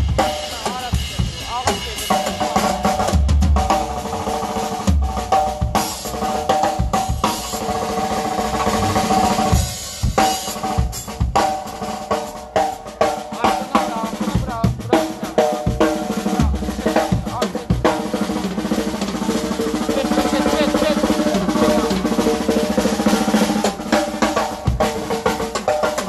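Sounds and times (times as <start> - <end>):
drum kit solo: 0.0 - 26.0.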